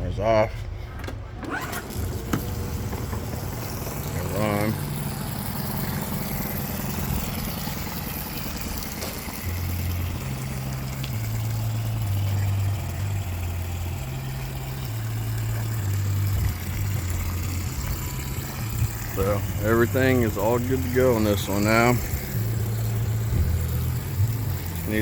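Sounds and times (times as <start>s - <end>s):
outboard motor idling: 0.2s - 25.0s.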